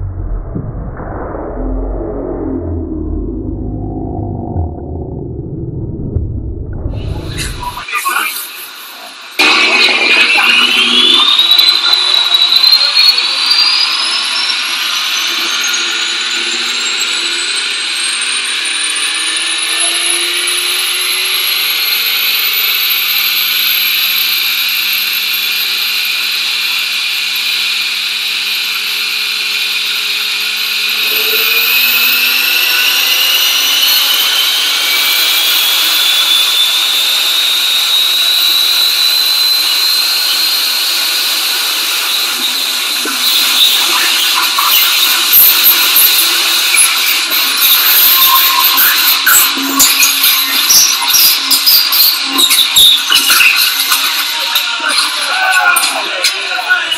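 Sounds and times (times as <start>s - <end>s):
supercharger whine climbing: 0.0s - 56.9s.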